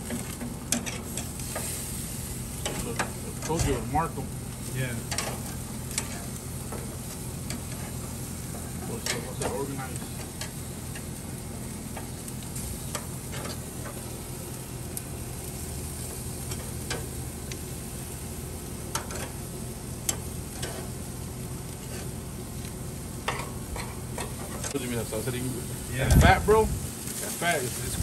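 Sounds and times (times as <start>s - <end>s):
meat sizzling on grill: 0.0s - 28.0s
tongs scraping grill grates: 0.0s - 28.0s.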